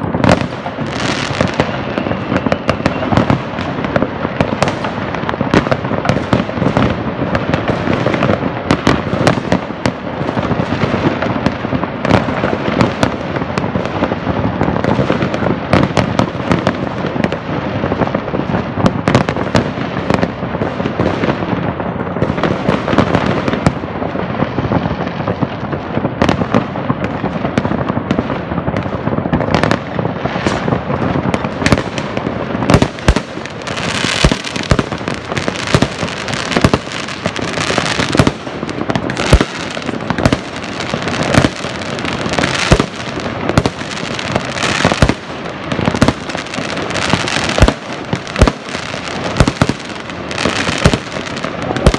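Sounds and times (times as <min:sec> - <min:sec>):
fireworks bangs and booms: 0:00.0 - 0:51.9
fireworks crackling: 0:00.0 - 0:51.9.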